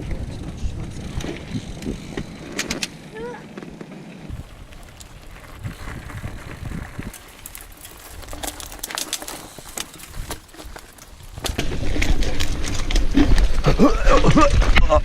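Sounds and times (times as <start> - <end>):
bike clicking and rattling: 0.0 - 15.0
bike tyres rumbling on dirt: 0.0 - 15.0.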